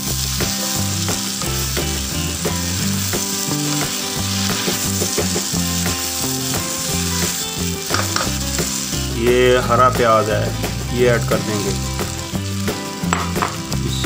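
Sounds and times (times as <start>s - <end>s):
vegetables sizzling in a wok: 0.0s - 14.0s
wooden spatula scraping wok: 0.0s - 14.0s.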